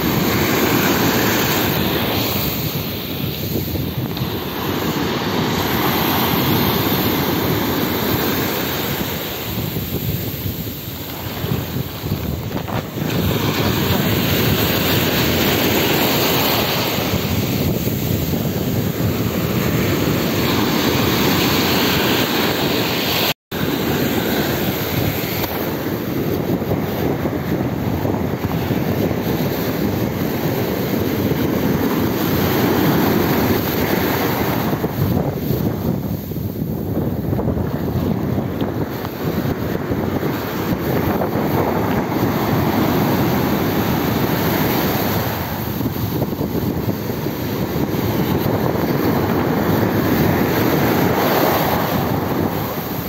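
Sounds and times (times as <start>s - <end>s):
surf washing in: 0.0s - 53.0s
wind buffeting microphone: 0.0s - 53.0s.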